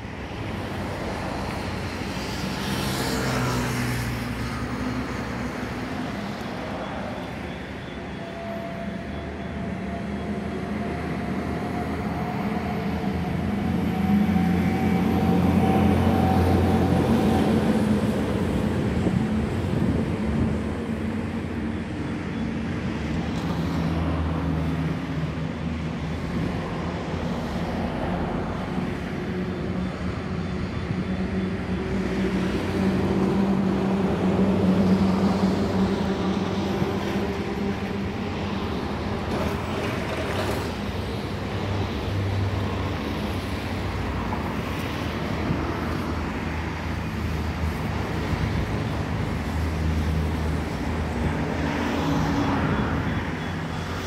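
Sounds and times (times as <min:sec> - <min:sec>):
road traffic: 0:00.0 - 0:54.0.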